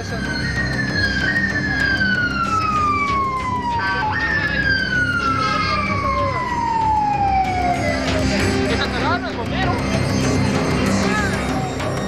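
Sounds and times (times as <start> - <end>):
emergency vehicle siren: 0.0 - 12.0
street noise: 0.0 - 12.0.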